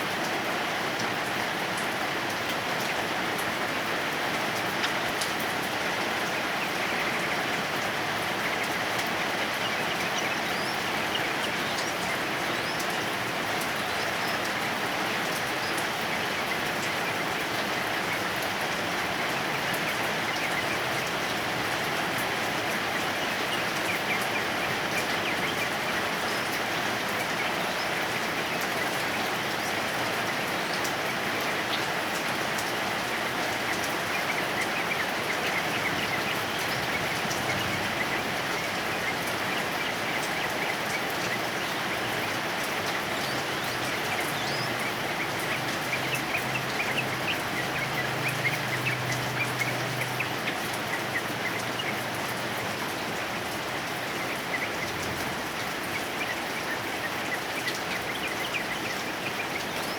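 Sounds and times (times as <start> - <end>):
heavy rain falling: 0.0 - 59.9
bird chirping: 4.5 - 59.9.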